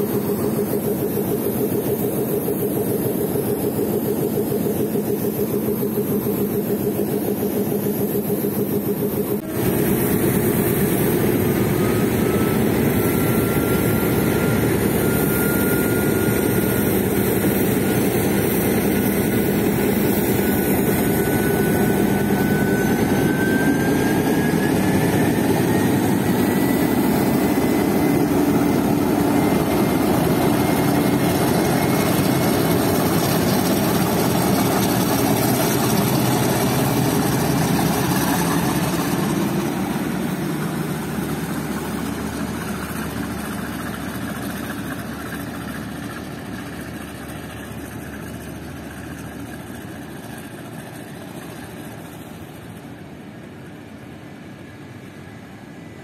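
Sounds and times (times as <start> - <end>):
thin whine rising in pitch: 0.0 - 50.4
locomotive diesel engine running: 0.0 - 54.2.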